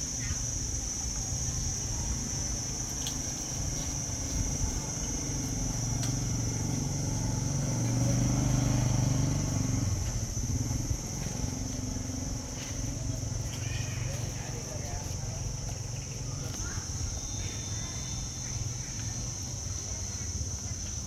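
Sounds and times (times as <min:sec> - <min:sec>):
high-pitched hiss: 0:00.0 - 0:21.0
vehicle engine rumbling: 0:00.0 - 0:21.0.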